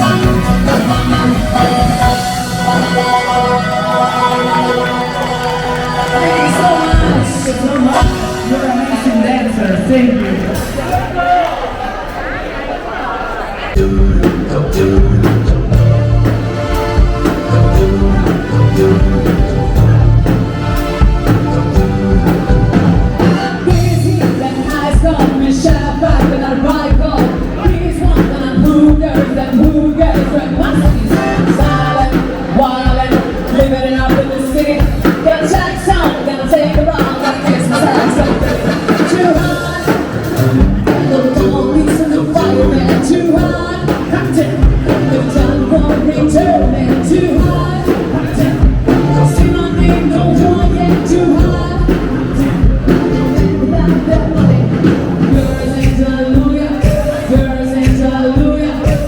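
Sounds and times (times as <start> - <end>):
music with singing and beat: 0.0 - 11.4, 13.7 - 59.0.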